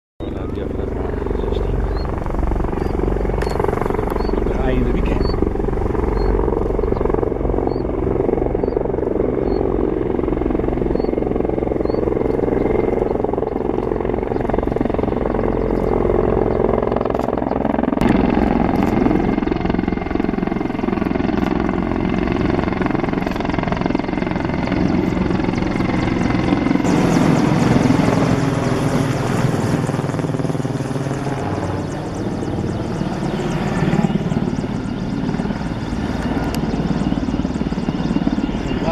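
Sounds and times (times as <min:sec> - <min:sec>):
helicopter rotor beat and engine: 0:00.2 - 0:38.9.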